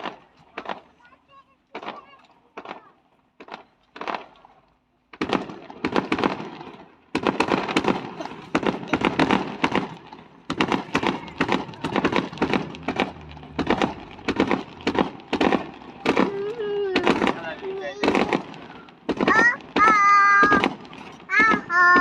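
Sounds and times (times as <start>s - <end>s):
aerial fireworks bursting: 1.7s - 22.0s.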